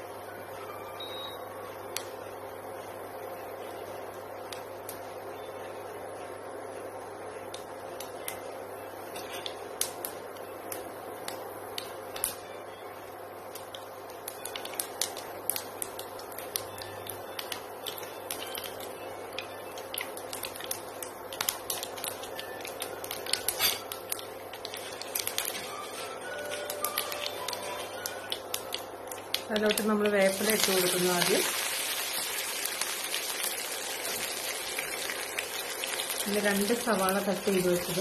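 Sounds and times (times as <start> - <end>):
seeds popping in hot oil: 4.1 - 5.3, 7.4 - 12.5, 13.4 - 38.0.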